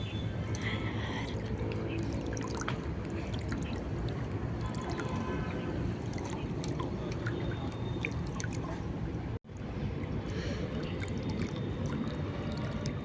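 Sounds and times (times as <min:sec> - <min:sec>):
river water flowing and lapping: 0:00.0 - 0:13.0
small splashes and drips: 0:00.4 - 0:13.0.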